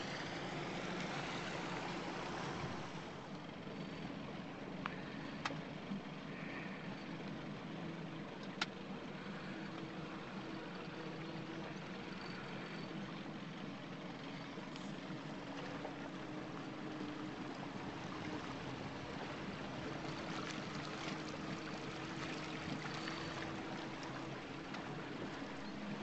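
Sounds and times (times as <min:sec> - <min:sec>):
boat motor running: 0:00.0 - 0:26.0
water rushing along hull: 0:00.0 - 0:26.0.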